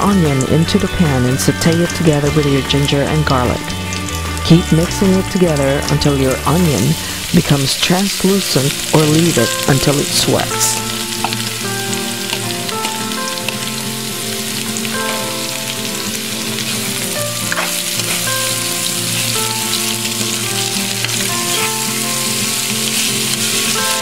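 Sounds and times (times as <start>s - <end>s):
background music: 0.0s - 24.0s
onions sizzling in hot oil: 0.0s - 24.0s.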